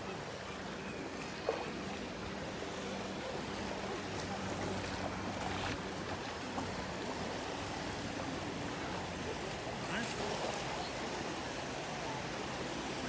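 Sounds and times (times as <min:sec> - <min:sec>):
faint distant voices: 0:00.0 - 0:13.0
small waves lapping at shore: 0:00.0 - 0:13.0.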